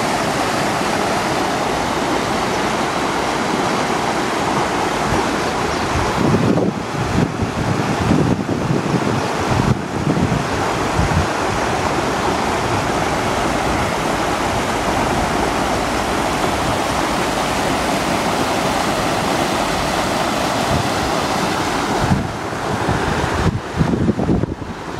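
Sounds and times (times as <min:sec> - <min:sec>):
river water rushing over gravel: 0:00.0 - 0:24.9.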